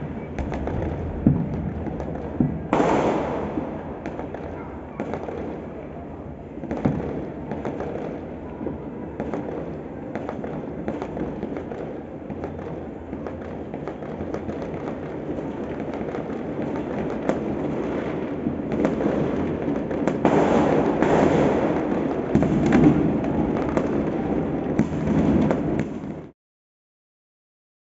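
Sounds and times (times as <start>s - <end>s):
fireworks crackling and banging: 0.0s - 26.3s.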